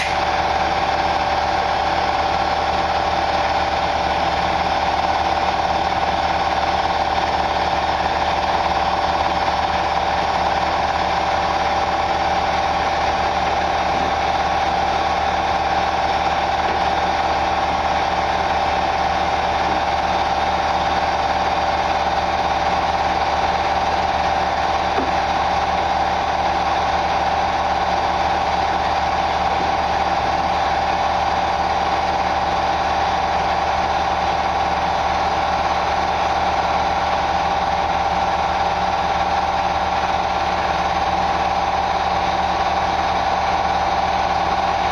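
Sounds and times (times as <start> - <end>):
machine humming steadily: 0.0 - 44.9.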